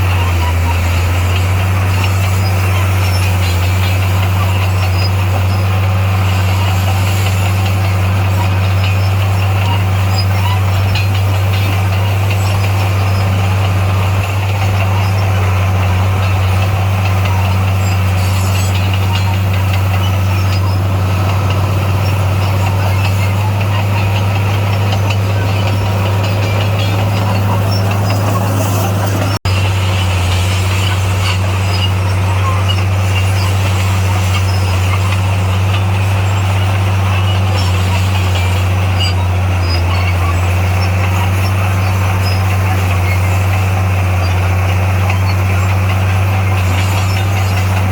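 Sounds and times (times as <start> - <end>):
heavy diesel engine droning: 0.0 - 47.9.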